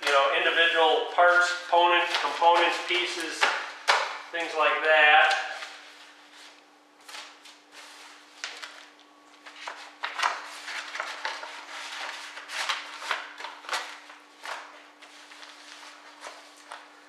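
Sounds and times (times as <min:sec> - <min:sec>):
paper sheets rustling: 0:00.0 - 0:17.0.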